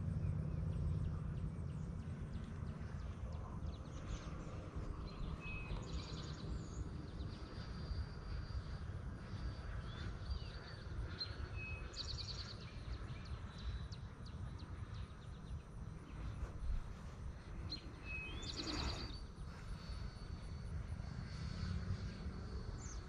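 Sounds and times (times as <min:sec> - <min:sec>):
low wind rumble on microphone: 0:00.0 - 0:23.0
small birds chirping: 0:00.1 - 0:23.0.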